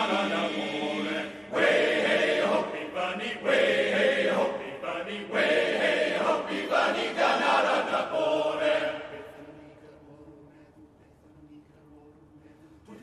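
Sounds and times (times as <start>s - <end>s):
male voice choir singing: 0.0s - 13.0s.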